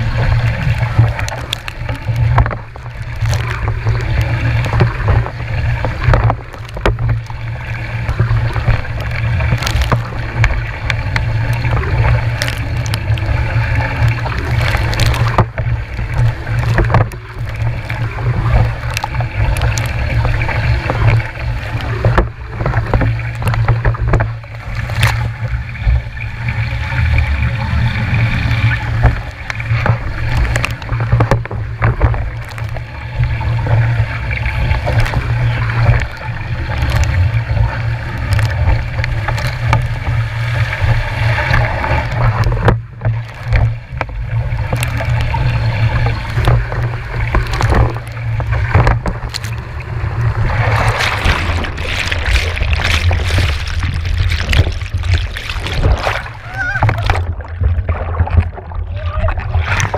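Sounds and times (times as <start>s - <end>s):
water splashing around boat: 0.0s - 59.9s
short knocks and cracks: 0.4s - 26.0s, 28.9s - 40.2s, 40.8s - 58.9s.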